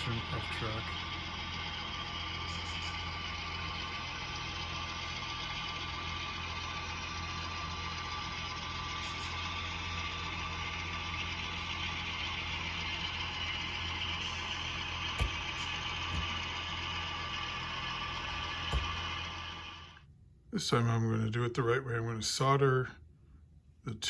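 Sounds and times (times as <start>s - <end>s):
model train humming: 0.0s - 20.0s.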